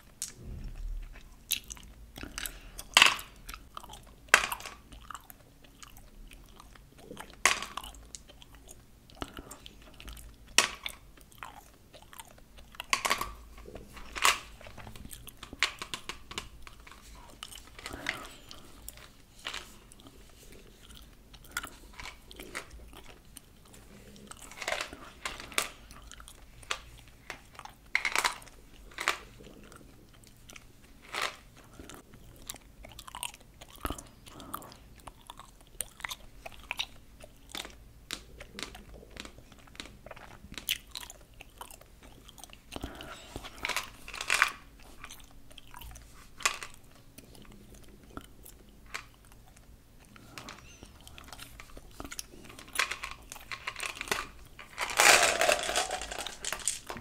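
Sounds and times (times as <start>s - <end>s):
chewing gum: 0.1s - 15.6s, 16.6s - 54.6s.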